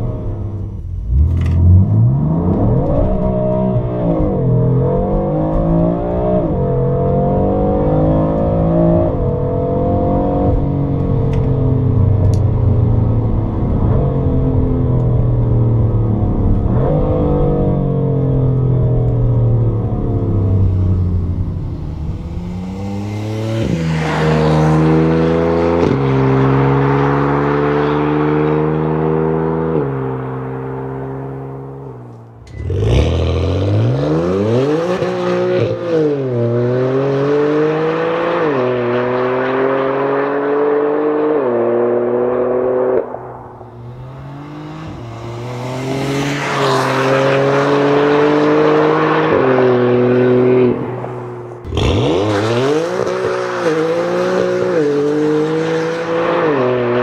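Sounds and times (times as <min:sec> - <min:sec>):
car engine revving through gears: 0:00.0 - 0:12.4, 0:13.2 - 0:57.0.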